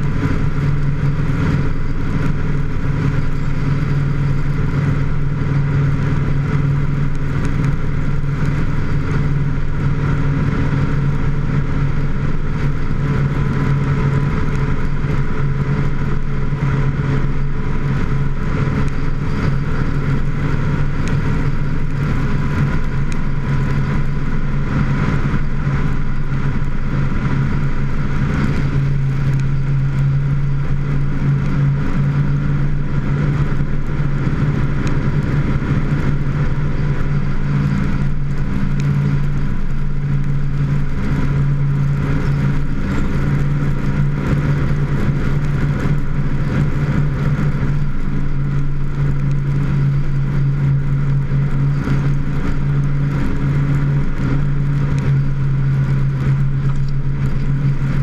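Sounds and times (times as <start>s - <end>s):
road noise: 0.0s - 58.0s
vehicle engine cruising: 0.0s - 58.0s.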